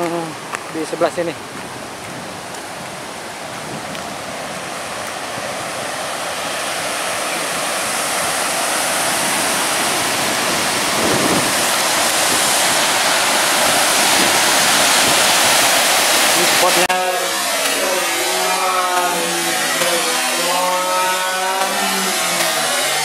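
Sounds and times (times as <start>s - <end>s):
water rushing over spillway: 0.0s - 23.0s.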